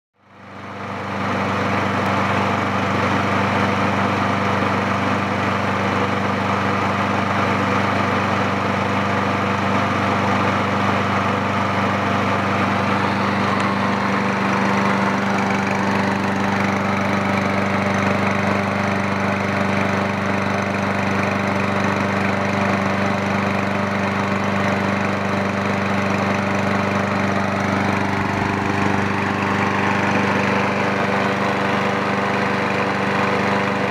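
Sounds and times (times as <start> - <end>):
lawn mower engine running: 0.2 - 33.9.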